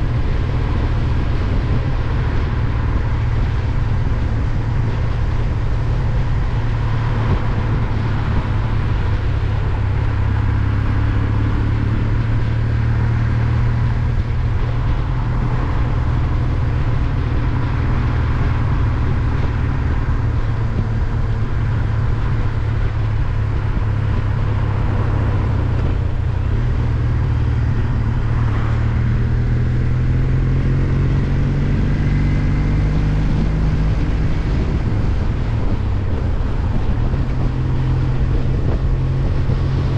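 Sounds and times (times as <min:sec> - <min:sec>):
motorcycle engine running: 0:00.0 - 0:39.9
muffled wind noise: 0:00.0 - 0:39.9.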